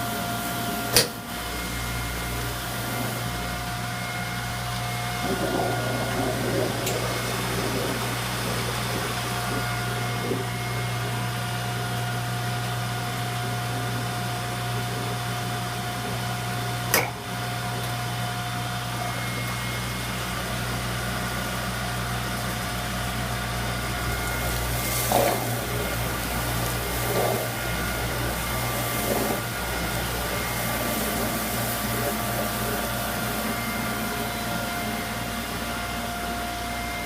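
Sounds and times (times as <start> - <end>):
dishwasher humming: 0.0 - 37.0.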